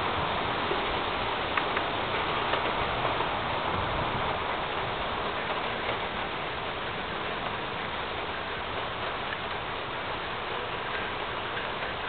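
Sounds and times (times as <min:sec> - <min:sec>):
rain hissing: 0:00.0 - 0:12.0
wind: 0:00.0 - 0:12.0.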